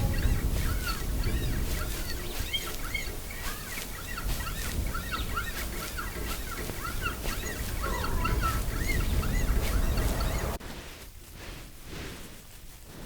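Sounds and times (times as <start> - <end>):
birds chirping in chorus: 0.0 - 10.6
steady low rumble: 0.0 - 12.8.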